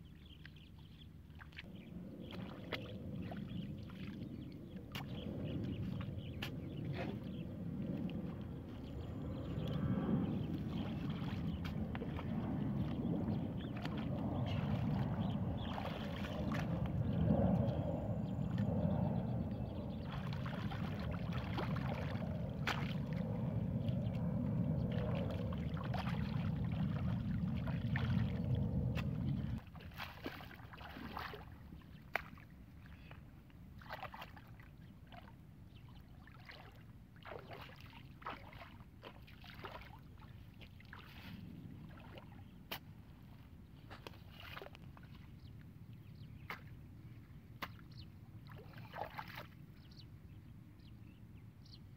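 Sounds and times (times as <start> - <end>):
muddy water sloshing and splashing: 0.0 - 17.2, 19.6 - 50.0.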